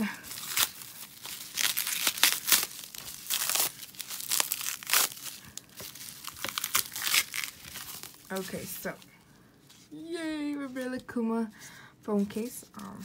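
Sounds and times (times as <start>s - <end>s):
bubble wrap crinkling and tearing: 0.0s - 10.8s.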